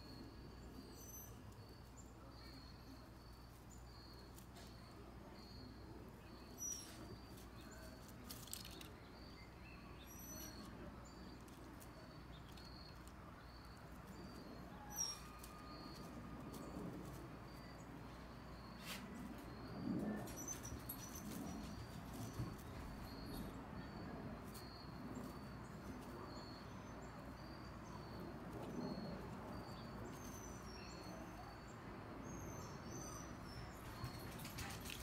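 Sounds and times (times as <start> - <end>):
squirrels rustling through ground cover: 0.2 - 31.4, 32.6 - 35.0.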